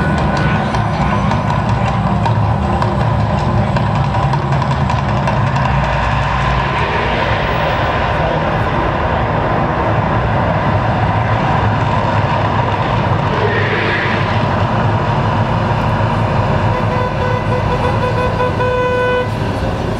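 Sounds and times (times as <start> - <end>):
roaring gas flame: 0.0 - 19.9.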